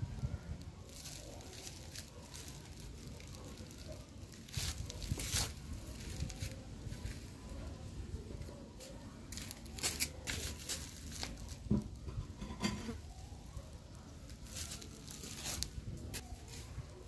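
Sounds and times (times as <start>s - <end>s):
rustling handling noise: 0.6s - 17.0s.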